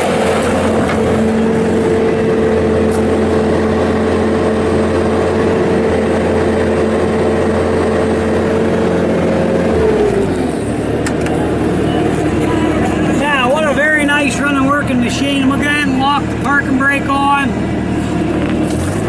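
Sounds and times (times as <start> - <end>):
diesel engine running at high revs: 0.0 - 19.0
steady whine: 0.0 - 19.0.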